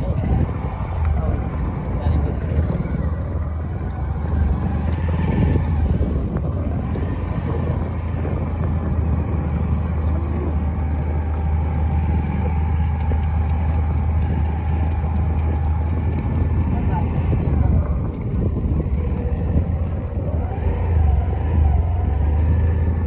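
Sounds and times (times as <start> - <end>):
road and wind noise: 0.0 - 23.0
vehicle engine running: 0.0 - 23.0.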